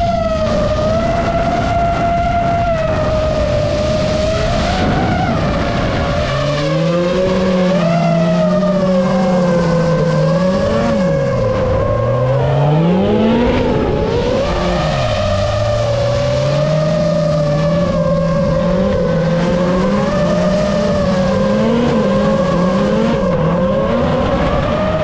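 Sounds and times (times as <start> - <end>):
car engines revving: 0.0 - 25.0
drone motors whining: 0.0 - 25.0
lower engine note: 0.0 - 25.0.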